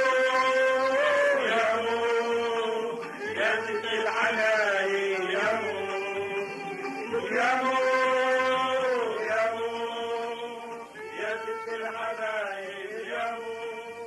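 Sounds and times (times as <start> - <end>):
person singing long notes: 0.0 - 14.0.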